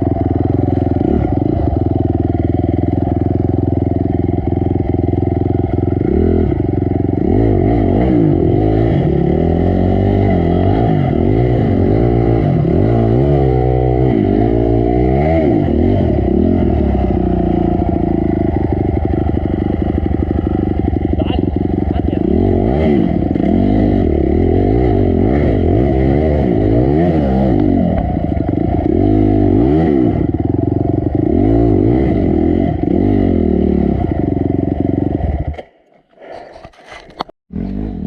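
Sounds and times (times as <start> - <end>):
dirt bike engine revving: 0.0 - 35.7, 37.5 - 38.0.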